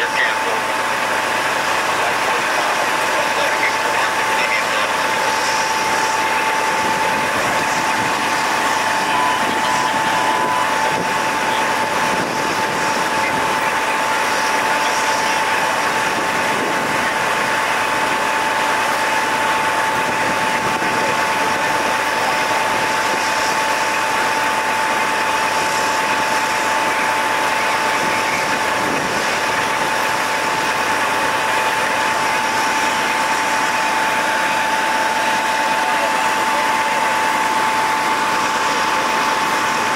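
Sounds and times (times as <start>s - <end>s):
engines idling with high whine: 0.0s - 39.9s.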